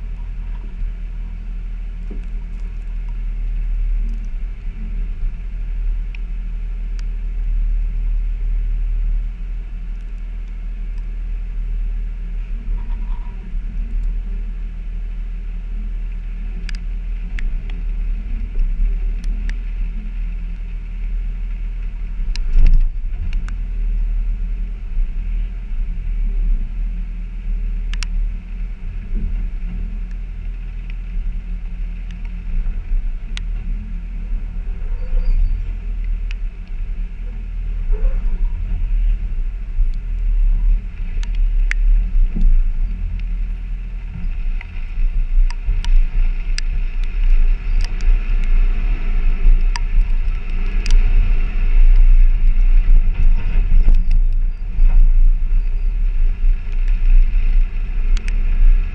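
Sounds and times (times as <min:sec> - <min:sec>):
vehicle engine low rumble: 0:00.0 - 0:58.9.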